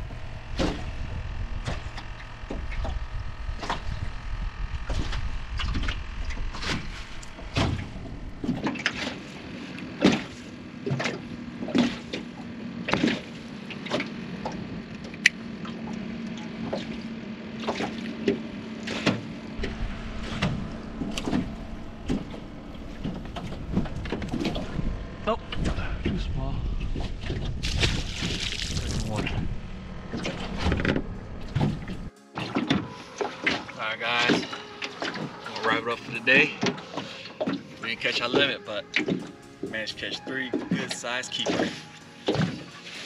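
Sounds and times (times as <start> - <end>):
knocks and rattles in aluminum boat: 0.0 - 4.2, 4.8 - 9.4, 10.0 - 15.8, 16.6 - 28.6, 30.1 - 39.8, 40.5 - 43.0
low steady hum: 0.0 - 43.0.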